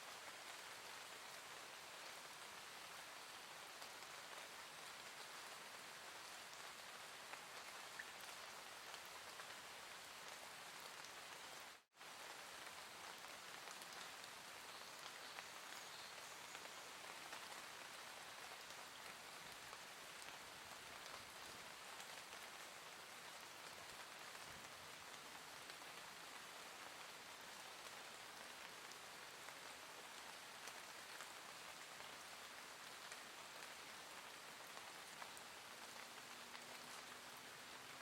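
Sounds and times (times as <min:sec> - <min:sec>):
soft steady rain: 0:00.0 - 0:38.0.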